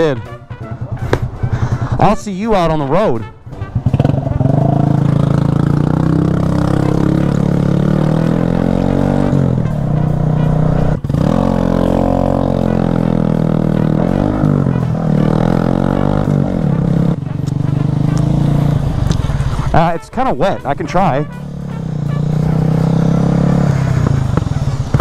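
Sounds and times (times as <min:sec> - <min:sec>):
motorcycle engine revving: 0:03.4 - 0:25.0.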